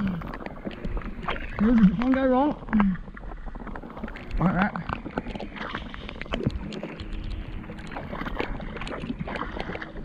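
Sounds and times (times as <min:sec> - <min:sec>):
fish thrashing and splashing: 0:00.0 - 0:10.0.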